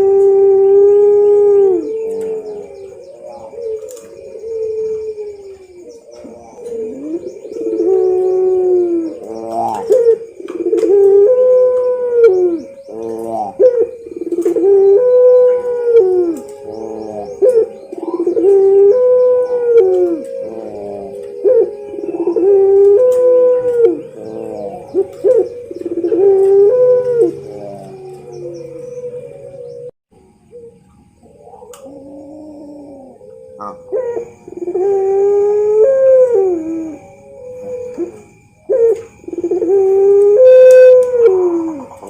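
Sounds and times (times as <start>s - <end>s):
small birds twittering: 0.0s - 35.4s
dove cooing: 0.0s - 42.0s.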